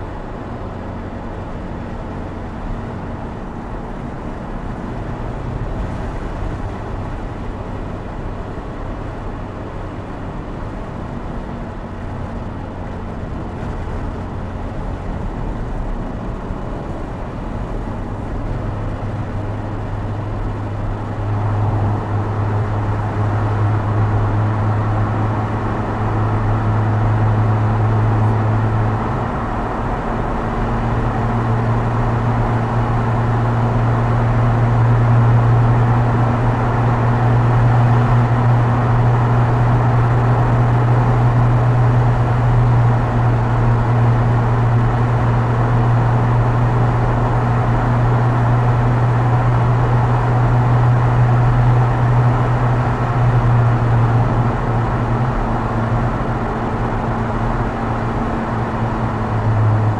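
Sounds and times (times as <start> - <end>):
car engine pulling at steady revs: 0.0 - 59.9.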